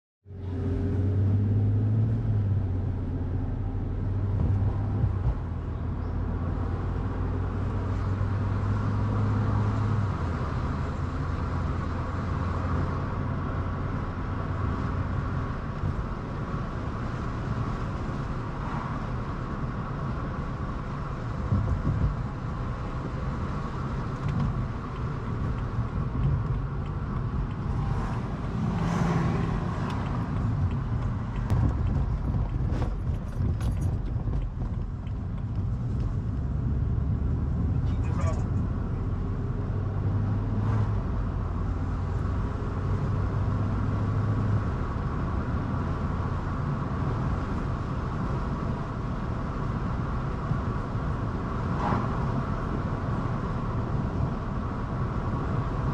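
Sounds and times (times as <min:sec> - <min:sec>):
tyre and road noise: 0:00.2 - 0:55.9
car engine hum: 0:00.3 - 0:55.9.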